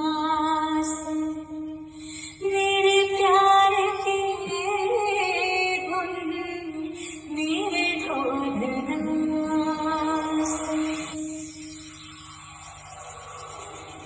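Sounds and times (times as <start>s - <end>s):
woman singing through speaker: 0.0s - 11.6s.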